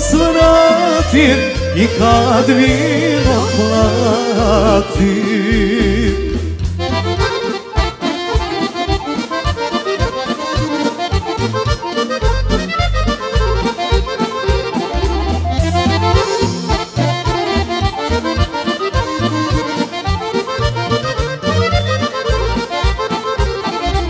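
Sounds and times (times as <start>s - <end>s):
accordion playing fast runs: 0.0s - 24.0s
keyboard accompaniment with bass: 0.0s - 24.0s.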